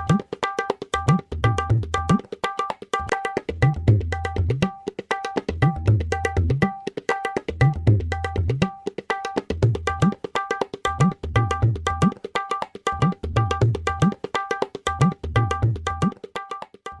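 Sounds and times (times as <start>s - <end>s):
tabla rhythm: 0.0s - 17.0s.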